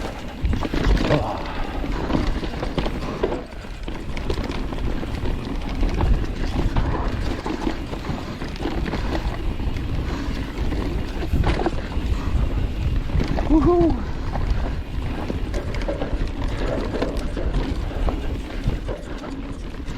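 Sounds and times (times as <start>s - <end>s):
bike rattling over bumps: 0.0s - 19.9s
bike tyres on dirt: 0.0s - 19.9s
wind rumbling on microphone: 0.0s - 19.9s.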